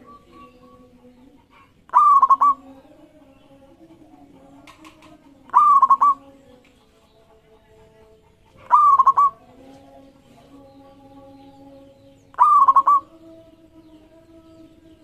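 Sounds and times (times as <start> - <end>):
dove singing: 0.0 - 15.0.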